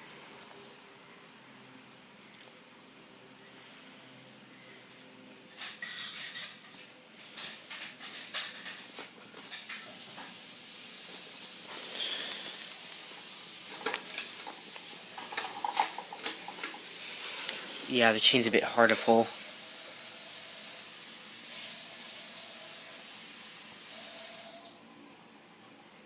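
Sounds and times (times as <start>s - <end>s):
ceiling fan whooshing hiss: 0.0s - 26.0s.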